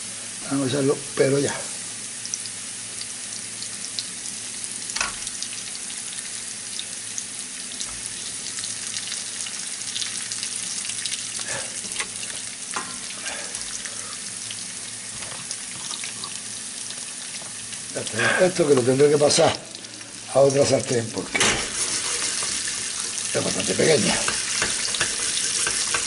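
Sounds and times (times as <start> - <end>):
oil sizzling in frying pan: 0.0 - 26.0.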